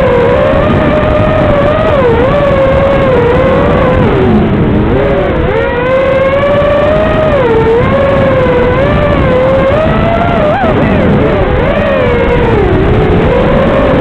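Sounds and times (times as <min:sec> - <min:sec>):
drone motors whining: 0:00.0 - 0:14.0
wind rumble on microphone: 0:00.0 - 0:14.0.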